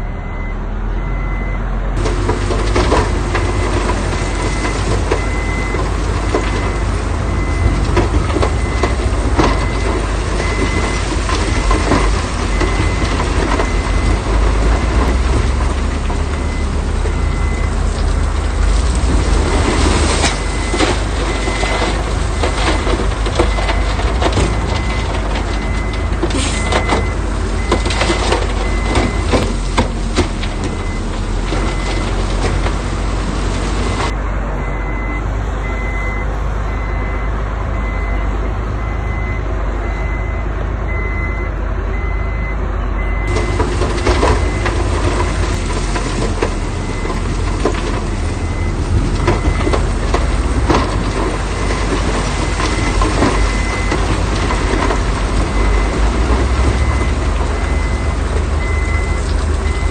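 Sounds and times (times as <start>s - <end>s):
reversing alarm beeping: 0.0s - 1.6s, 2.2s - 17.8s, 19.5s - 29.6s, 30.6s - 32.2s, 33.8s - 59.9s
heavy diesel vehicle engine: 0.0s - 59.9s
knocks and clanks: 2.0s - 34.1s, 43.2s - 59.9s.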